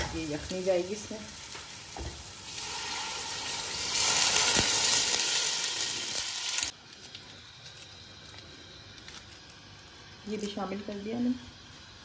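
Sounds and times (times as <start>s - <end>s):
stock sizzling in hot pot: 0.0s - 12.0s.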